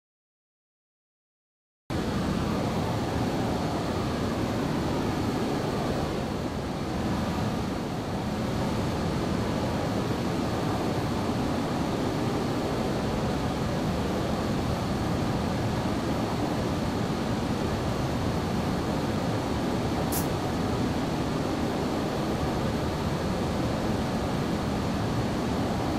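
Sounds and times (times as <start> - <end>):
jet plane engines rushing: 1.9 - 25.9
faint high whine: 2.0 - 25.9.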